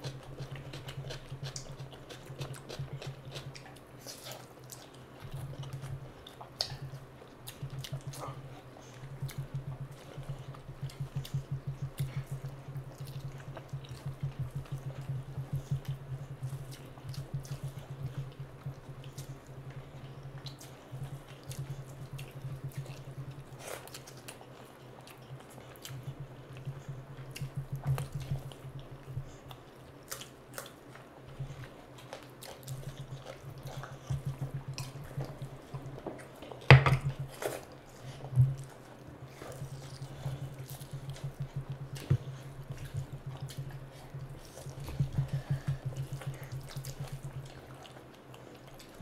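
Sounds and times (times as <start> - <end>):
chewing: 0.0 - 49.0.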